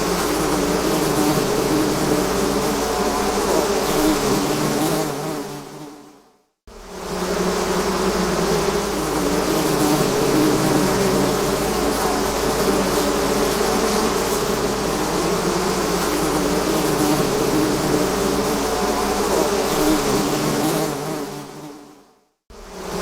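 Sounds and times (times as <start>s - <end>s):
bees buzzing: 0.0s - 21.9s, 22.6s - 23.0s.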